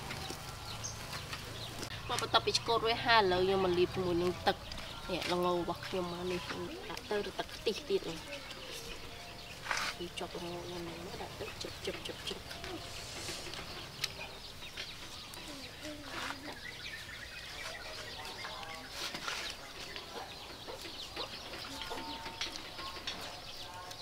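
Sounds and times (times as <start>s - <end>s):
chickens clucking: 0.0s - 24.0s
grill clicking and crackling: 0.0s - 24.0s.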